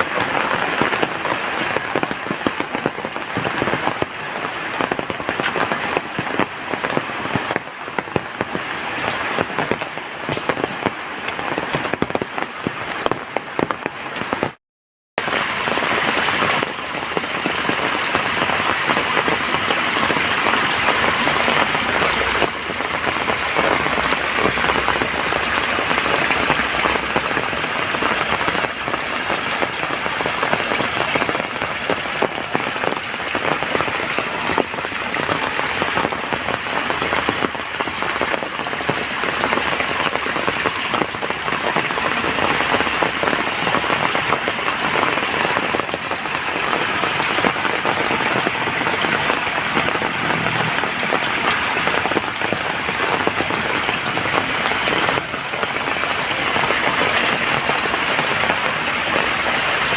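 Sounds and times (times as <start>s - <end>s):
heavy rain falling: 0.0s - 14.6s, 15.2s - 59.9s.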